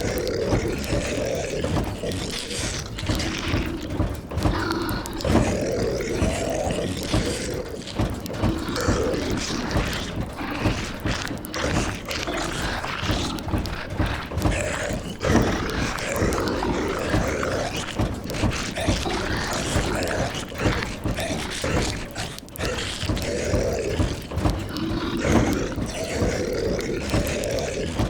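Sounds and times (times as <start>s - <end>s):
small clicks and crackles: 0.0s - 28.0s
voices moaning and growling: 0.0s - 28.0s.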